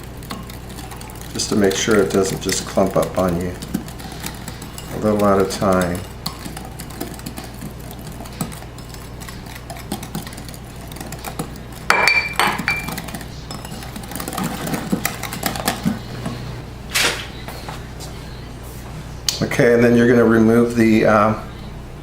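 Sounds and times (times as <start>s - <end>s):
utensil stirring in mixing bowl: 0.0s - 21.2s.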